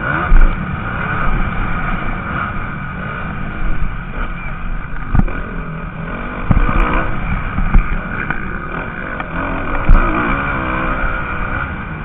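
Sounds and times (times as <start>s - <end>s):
sharp low thumps: 0.0s - 11.2s
motocross bikes revving: 0.0s - 12.0s.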